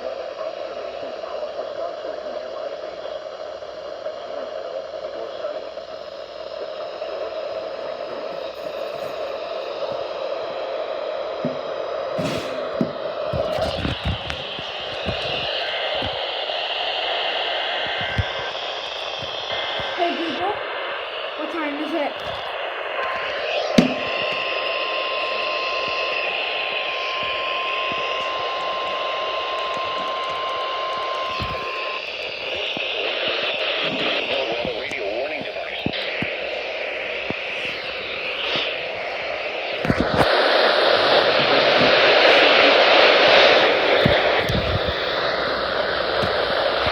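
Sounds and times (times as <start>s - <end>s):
radio static hiss with hum: 0.0s - 46.9s
steady high alarm tone: 7.2s - 46.9s.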